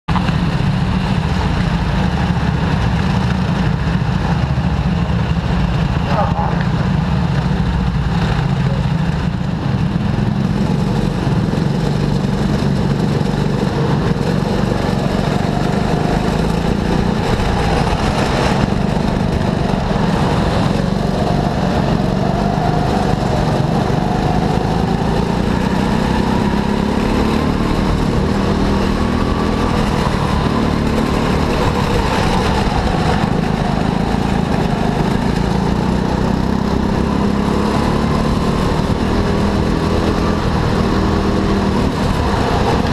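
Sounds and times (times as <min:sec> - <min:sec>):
go-kart engine running: 0:00.1 - 0:42.9.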